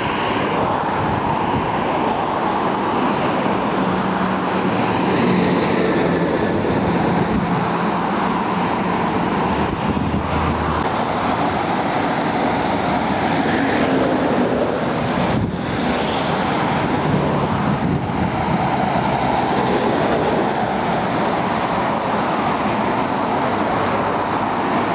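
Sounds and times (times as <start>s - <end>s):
heavy trucks driving past: 0.0s - 24.9s
steady traffic: 0.0s - 24.9s
tyre noise on road: 0.0s - 24.9s.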